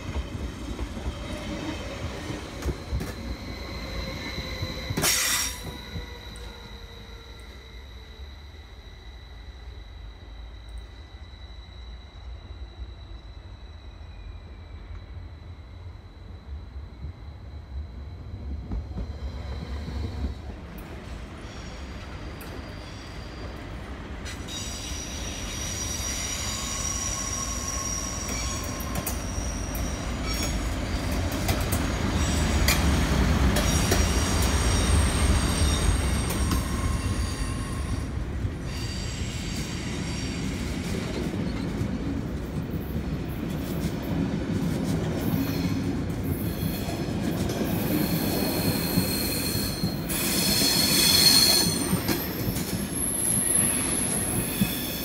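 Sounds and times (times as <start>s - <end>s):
train wheel squeals: 0.0s - 55.0s
train wheels rumbling on rail: 0.0s - 55.0s.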